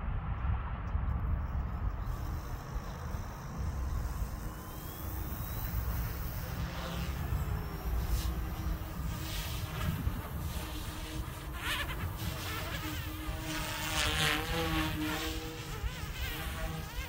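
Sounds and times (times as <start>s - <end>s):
wind buffeting microphone: 0.0s - 17.0s
small electric motors whining: 1.4s - 17.0s.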